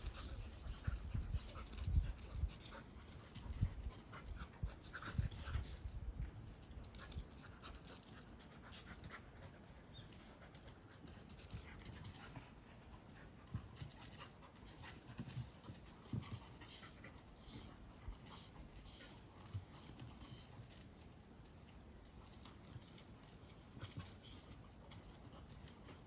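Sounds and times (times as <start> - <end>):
dogs panting: 0.0 - 21.2, 22.0 - 26.0
dogs scuffling: 0.1 - 26.0.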